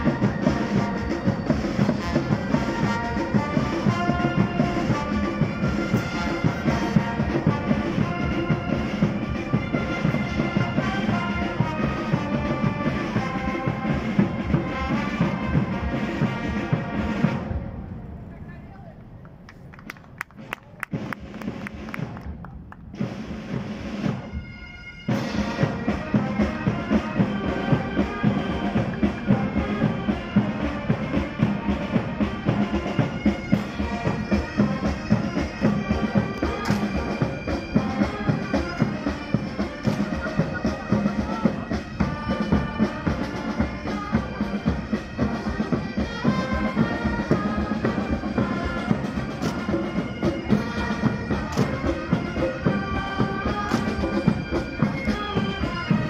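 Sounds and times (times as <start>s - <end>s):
bagpipes playing melody: 0.0s - 17.5s, 23.8s - 56.0s
drums beating: 0.0s - 17.9s, 19.9s - 56.0s.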